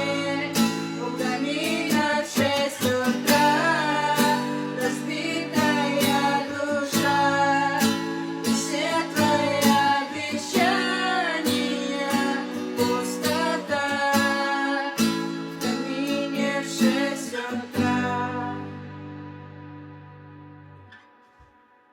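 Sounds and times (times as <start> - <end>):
person singing: 0.0 - 19.2
strummed acoustic guitar: 0.0 - 21.9.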